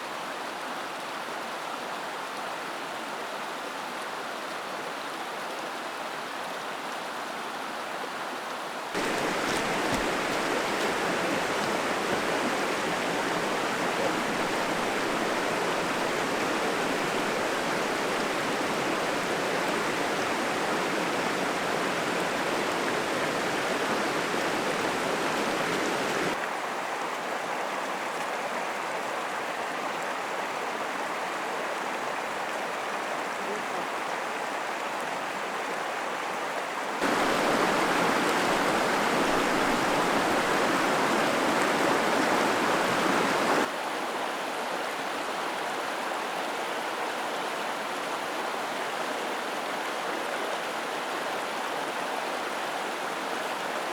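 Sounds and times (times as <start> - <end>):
mountain stream rushing: 9.0 - 53.9.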